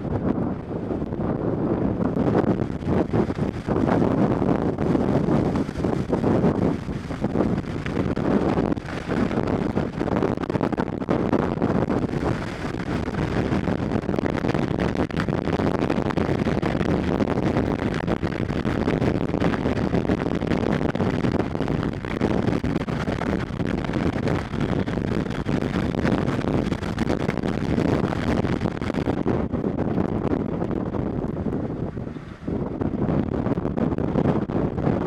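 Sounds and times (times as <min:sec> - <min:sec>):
strong wind buffeting microphone: 0:00.0 - 0:35.0.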